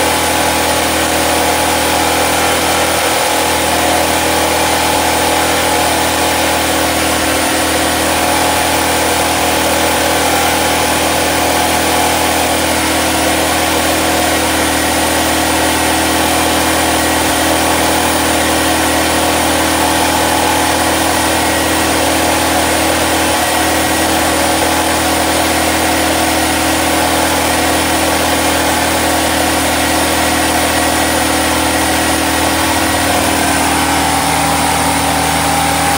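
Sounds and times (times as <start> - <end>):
generator engine droning: 0.0 - 35.9.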